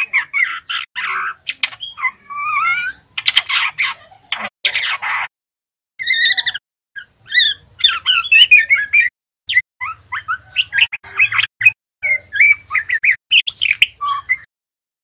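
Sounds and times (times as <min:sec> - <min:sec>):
bird chirping and twittering: 0:00.0 - 0:05.3, 0:06.0 - 0:14.5.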